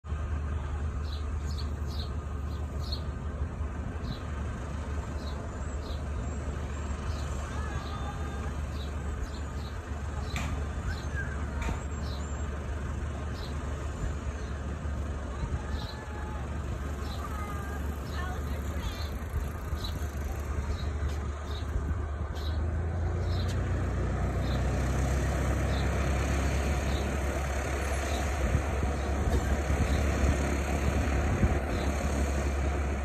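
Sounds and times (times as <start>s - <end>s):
airplane engine idling: 0.0s - 33.0s.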